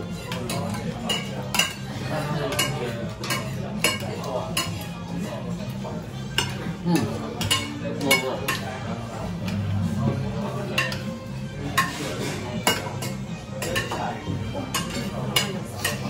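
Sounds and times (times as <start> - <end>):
spoons clinking on plates: 0.1 - 5.0, 6.2 - 9.6, 10.6 - 16.0.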